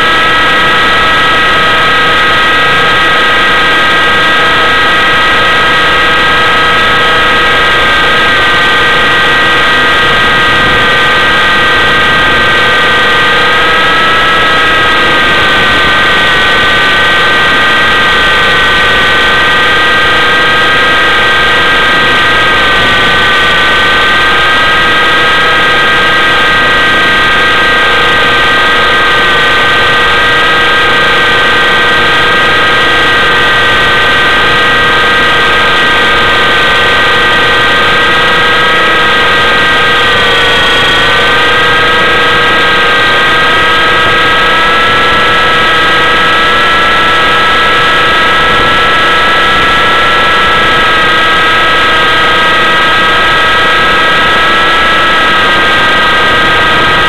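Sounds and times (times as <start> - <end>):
helicopter motor whine: 0.0 - 57.0.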